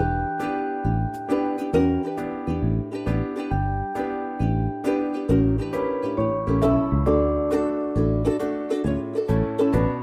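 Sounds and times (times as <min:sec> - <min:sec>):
bass line: 0:00.0 - 0:10.0
plucked string instrument: 0:00.0 - 0:10.0.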